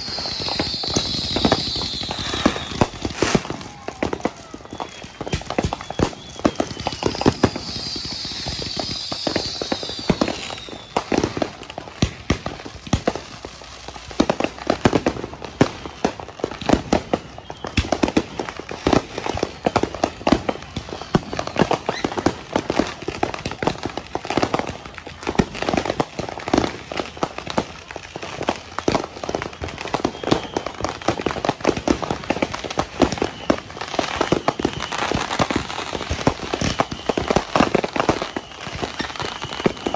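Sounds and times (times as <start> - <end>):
firework whistle: 0.0 - 39.9
fireworks popping and banging: 0.0 - 39.9.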